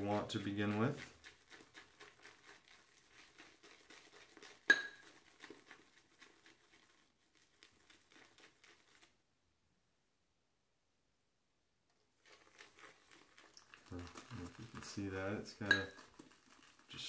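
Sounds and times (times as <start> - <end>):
shaving brush wet crackling: 0.0 - 9.2, 12.2 - 17.0.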